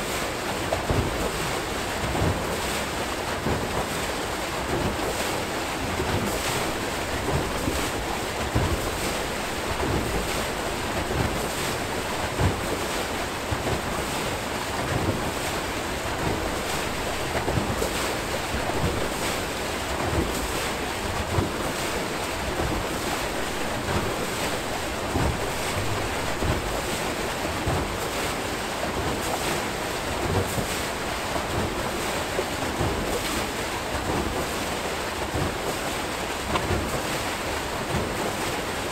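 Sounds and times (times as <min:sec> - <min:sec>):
short water splashes: 0:00.0 - 0:38.9
water rushing through turbine: 0:00.0 - 0:38.9.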